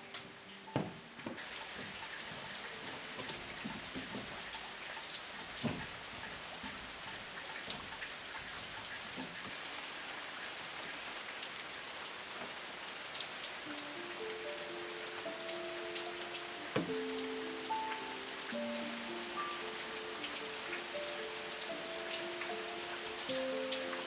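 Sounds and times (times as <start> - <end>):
steady rain pattering: 0.0 - 24.0.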